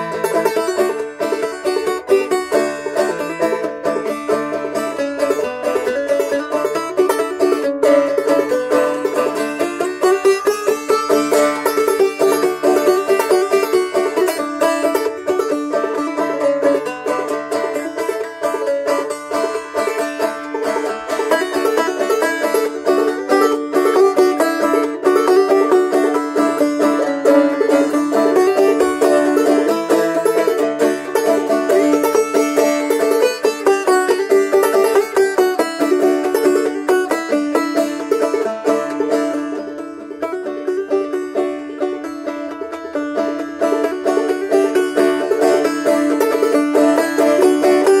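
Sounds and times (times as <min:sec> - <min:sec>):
banjo playing a carol tune: 0:00.0 - 0:48.0.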